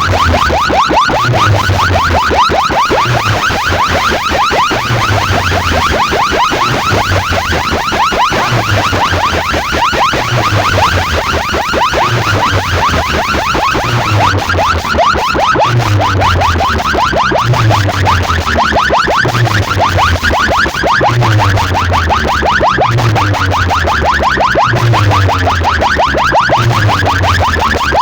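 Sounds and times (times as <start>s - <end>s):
fast rising electronic chirp: 0.0s - 28.0s
pulsing bass line: 0.0s - 28.0s.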